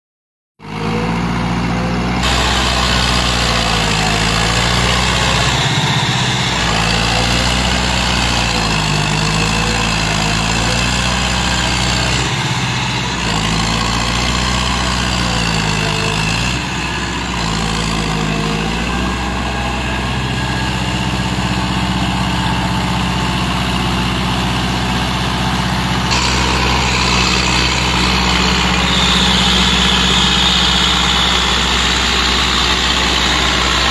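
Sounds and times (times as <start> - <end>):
tractor diesel engine running: 0.6 - 33.9.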